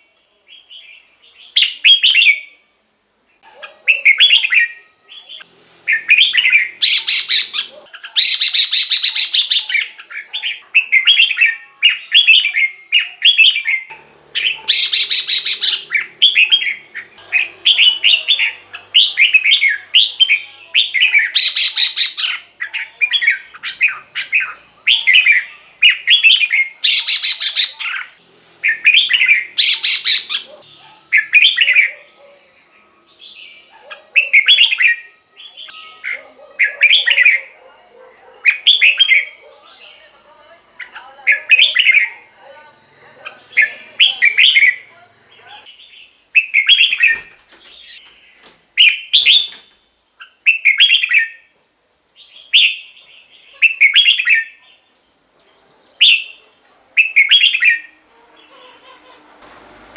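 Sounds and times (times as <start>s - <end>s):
bird singing whistled phrases: 0.5s - 2.6s, 3.8s - 37.6s, 38.5s - 39.4s, 40.8s - 44.9s, 45.7s - 51.5s, 52.2s - 54.6s, 56.0s - 56.4s, 57.0s - 58.0s.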